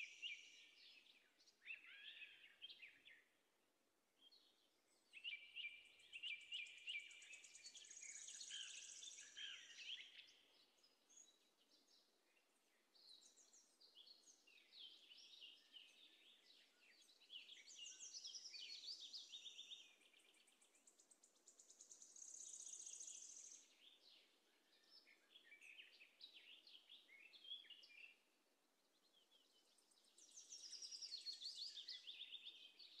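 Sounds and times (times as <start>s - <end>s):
faint birdsong chirps and trills: 0.0s - 33.0s.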